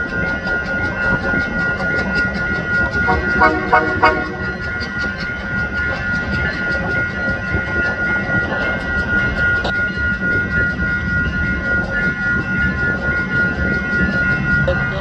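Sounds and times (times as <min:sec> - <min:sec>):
diesel locomotive engine rumbling: 0:00.0 - 0:15.0
locomotive bell ringing: 0:00.0 - 0:15.0.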